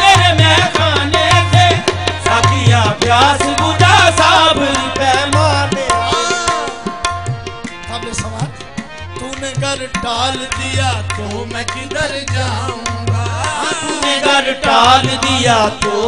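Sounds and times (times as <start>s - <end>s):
harmonium held notes: 0.0s - 16.0s
tabla drumming: 0.0s - 16.0s.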